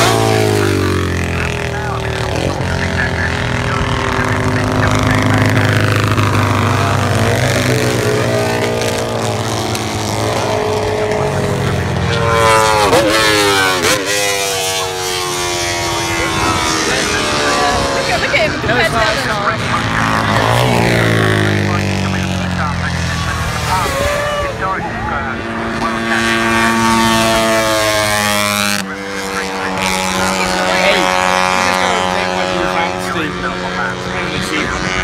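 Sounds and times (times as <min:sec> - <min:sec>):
racing motorcycles passing by: 0:00.0 - 0:35.0.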